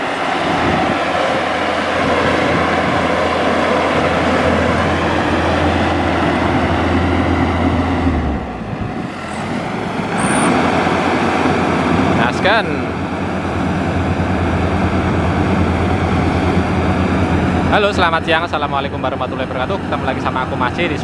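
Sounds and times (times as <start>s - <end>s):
harvester engine drone: 0.0s - 21.0s
machinery noise: 0.0s - 21.0s.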